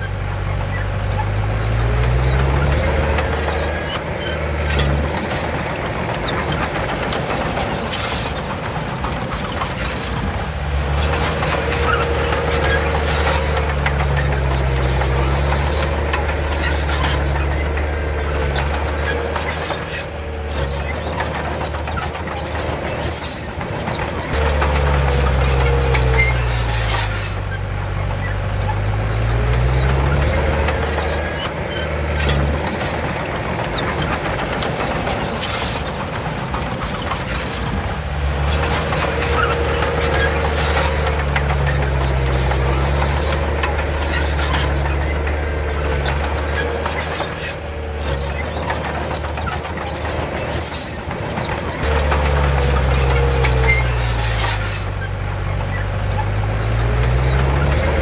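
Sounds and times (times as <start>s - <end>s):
bulldozer diesel engine working: 0.0s - 58.0s
squeal from running gear: 0.0s - 58.0s.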